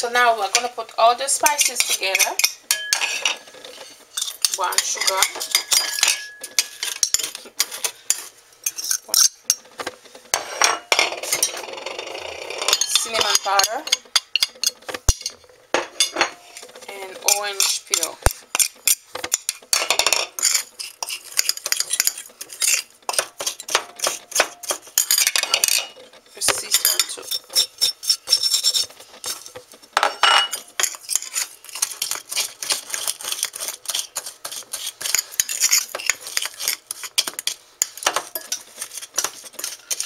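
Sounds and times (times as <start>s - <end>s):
spoon scraping in a bowl: 1.4s - 9.7s, 10.3s - 40.0s.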